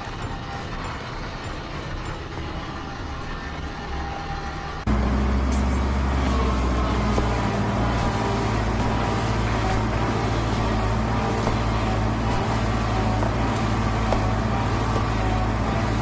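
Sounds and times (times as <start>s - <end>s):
deep machine hum: 0.0s - 16.0s
machine rumble: 0.0s - 16.0s.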